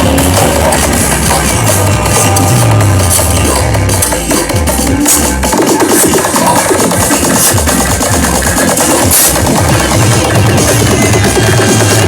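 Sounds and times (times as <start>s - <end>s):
loud electronic dance music: 0.0s - 12.0s.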